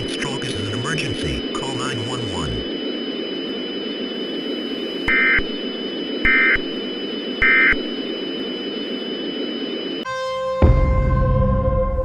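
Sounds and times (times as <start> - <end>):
radio static hiss: 0.0 - 10.1
warbling digital data tones: 0.0 - 10.1.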